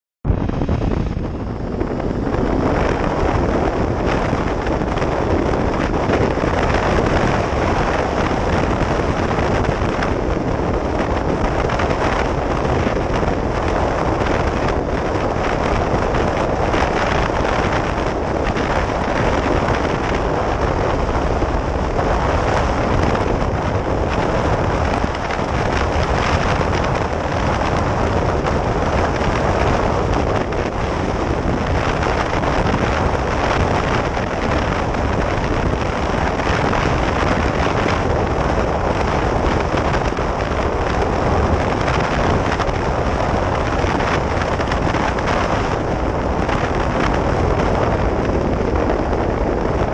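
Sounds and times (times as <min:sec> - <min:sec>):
wind buffeting microphone: 0:00.2 - 0:49.9.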